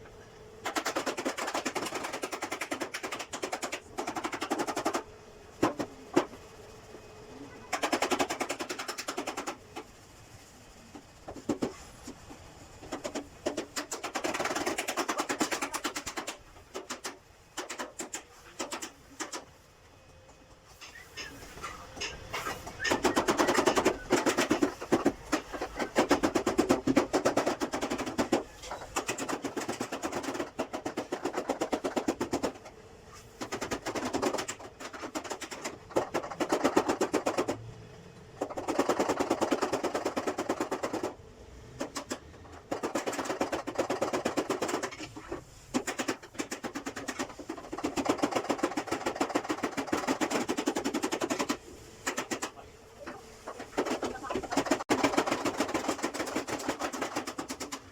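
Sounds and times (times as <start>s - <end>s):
rapid mechanical rattling knocks: 0.6s - 6.8s, 7.7s - 19.5s, 22.0s - 32.7s, 33.4s - 37.6s, 38.4s - 41.2s, 41.8s - 52.6s, 53.5s - 57.9s.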